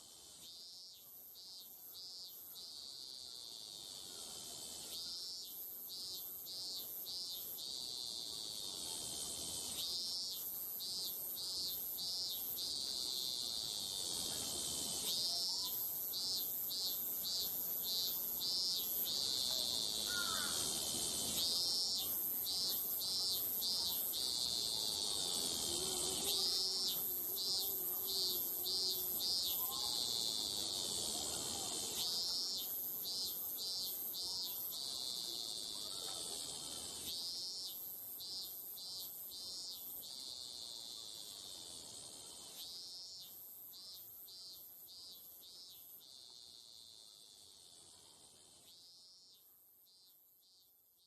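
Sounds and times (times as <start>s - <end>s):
insect high buzz: 0.0s - 50.8s
insect quick chirps: 0.0s - 51.0s.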